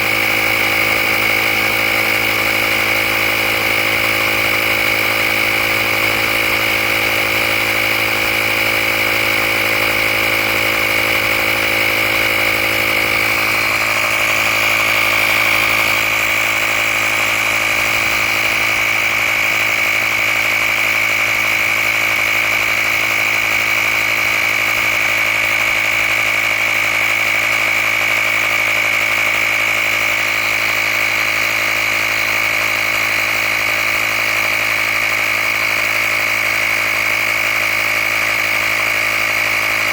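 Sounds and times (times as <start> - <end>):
air compressor motor whine: 0.0 - 39.9.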